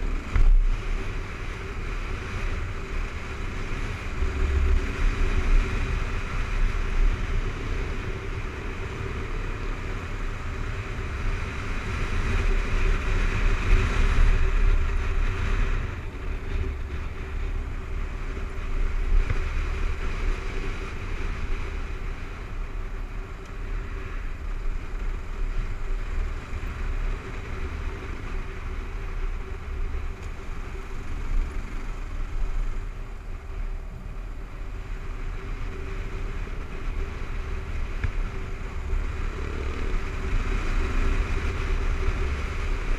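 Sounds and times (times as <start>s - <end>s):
motorcycle running on gravel: 0.0s - 42.9s
wind rumbling on microphone: 0.0s - 42.9s.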